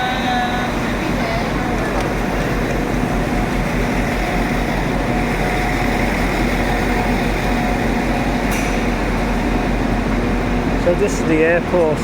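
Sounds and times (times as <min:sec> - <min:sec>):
mechanical drone with held tones: 0:00.0 - 0:12.0.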